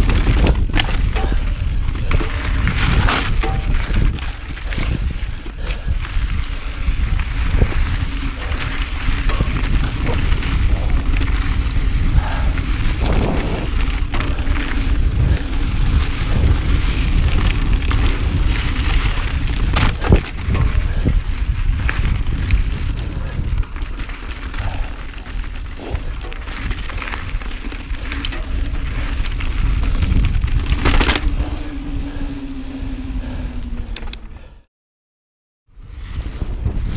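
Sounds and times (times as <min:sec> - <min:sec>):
tyre noise on dirt: 0:00.0 - 0:34.0
bike knocking and rattling: 0:00.0 - 0:34.5
wind buffeting microphone: 0:00.0 - 0:34.5, 0:35.7 - 0:36.9.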